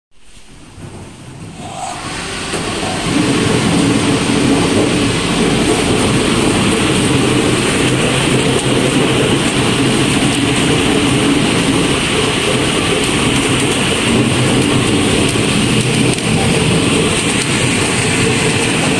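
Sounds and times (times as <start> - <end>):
suction blower rushing: 1.5 - 18.9.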